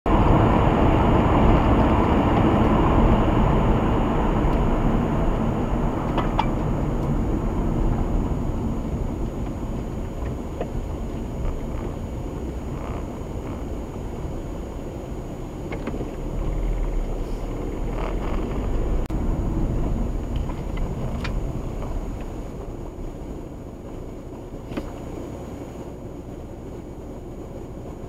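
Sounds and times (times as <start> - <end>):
car interior road rumble: 0.1 - 28.0.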